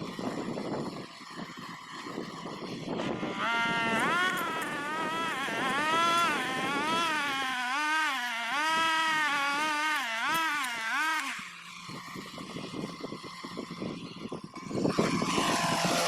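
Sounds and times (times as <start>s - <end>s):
small petrol engine revving: 0.0s - 16.0s.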